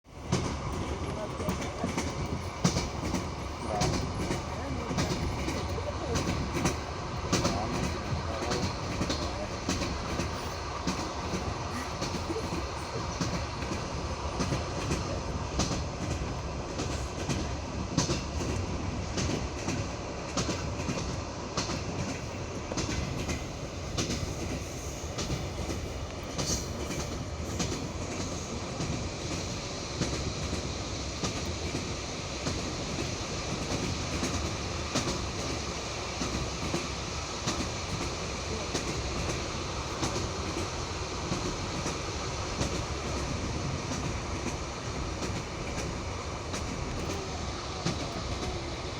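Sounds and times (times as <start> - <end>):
train rolling rumble: 0.0 - 48.9
train wheels clacking: 0.2 - 48.9.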